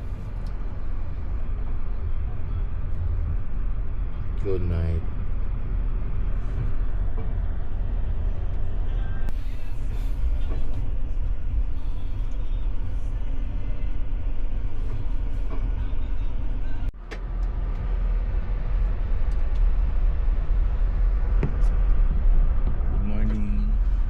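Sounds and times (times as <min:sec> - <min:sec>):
moving train rumbling: 0:00.0 - 0:24.0.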